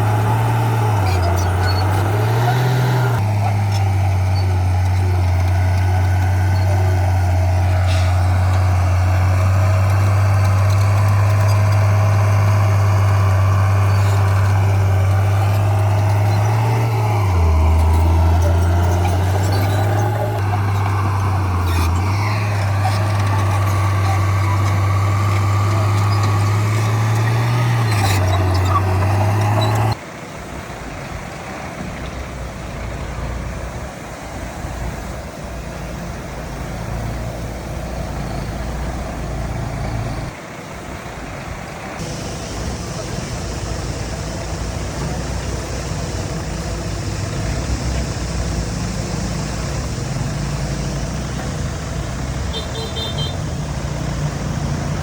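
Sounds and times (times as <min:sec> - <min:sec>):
distant engine rumble: 0:00.0 - 0:55.0
heavy diesel engines running: 0:00.0 - 0:55.0.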